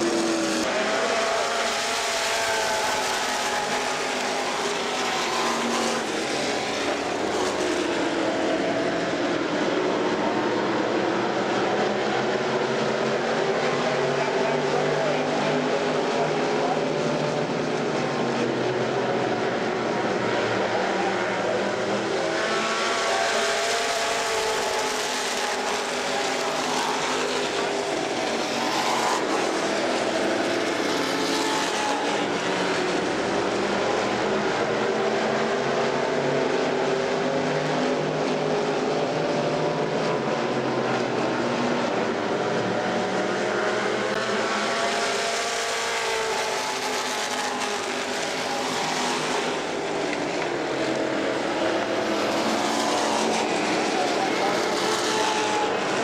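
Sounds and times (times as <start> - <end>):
racing car engines droning: 0.0 - 56.0.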